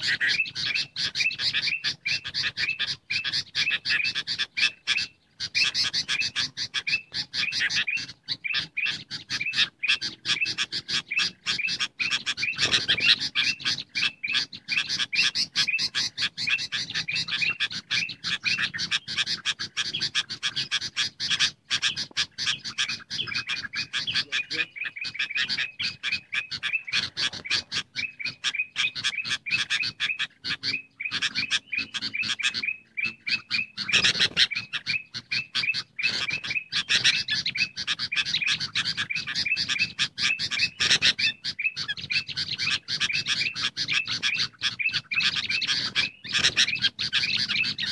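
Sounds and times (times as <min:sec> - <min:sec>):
bulbuls chattering: 0:00.0 - 0:47.9.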